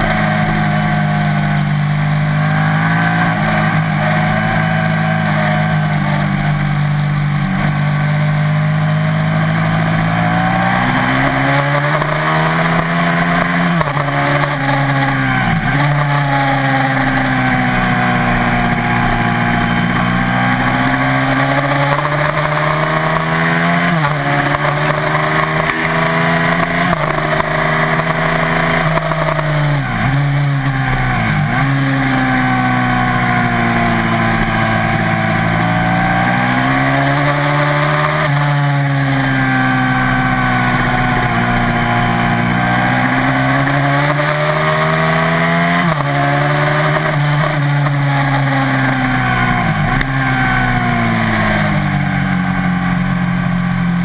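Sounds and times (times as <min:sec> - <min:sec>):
motorcycle engine revving hard: 0:00.0 - 0:54.0.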